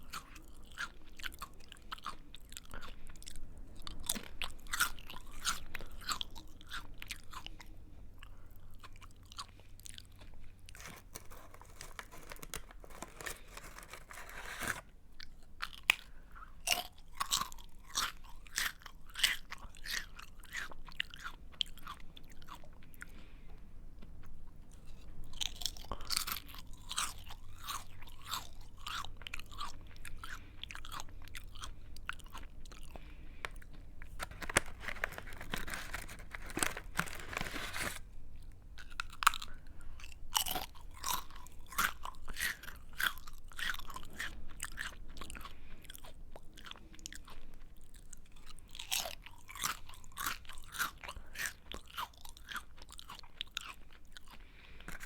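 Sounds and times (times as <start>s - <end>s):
person chewing crunchy snack: 0.0s - 23.2s, 24.8s - 38.1s, 38.8s - 55.0s.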